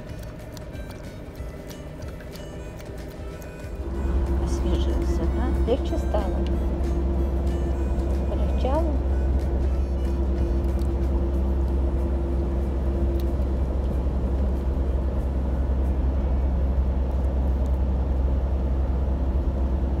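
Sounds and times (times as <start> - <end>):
truck engine rumble from cab: 0.0 - 20.0.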